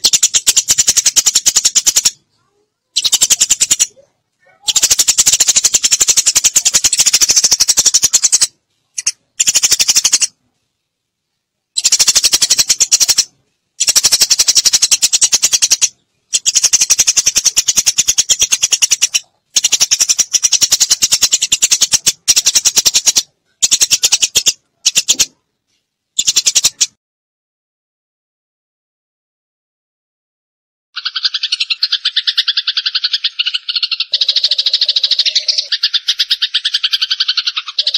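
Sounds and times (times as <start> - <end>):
sparrows chattering: 0.0 - 10.4, 11.8 - 25.4, 26.2 - 26.9, 31.0 - 37.9.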